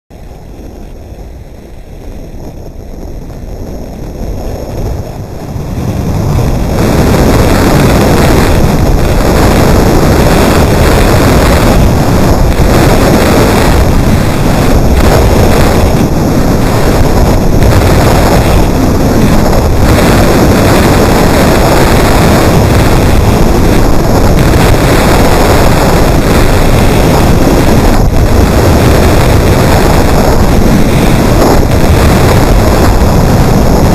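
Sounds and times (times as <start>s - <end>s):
wind rushing over microphone: 0.1s - 33.9s.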